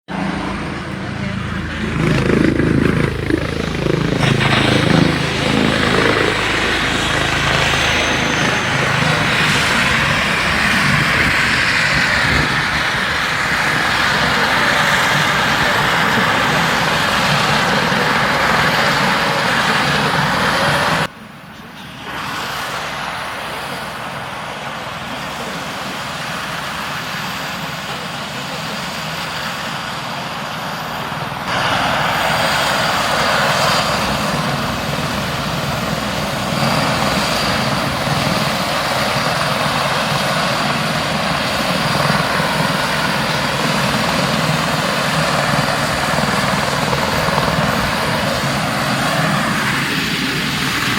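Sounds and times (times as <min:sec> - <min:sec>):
helicopter rotor and engine: 0:00.1 - 0:50.9.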